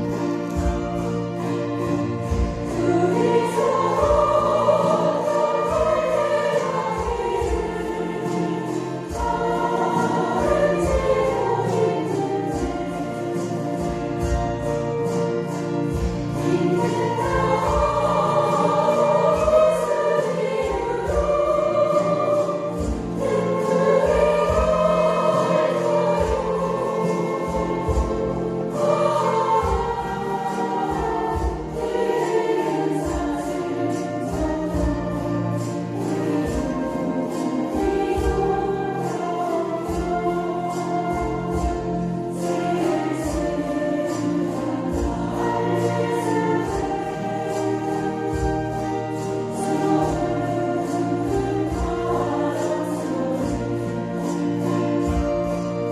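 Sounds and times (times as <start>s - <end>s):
group singing in unison: 0.0s - 55.9s
harps strumming chords: 0.0s - 55.9s.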